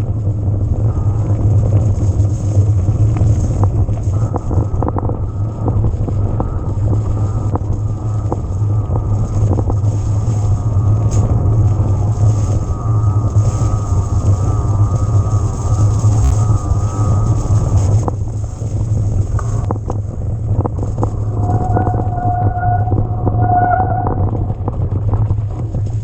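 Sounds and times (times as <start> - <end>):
wind rumble on microphone: 0.0 - 26.0
electric motor whine: 0.6 - 25.5.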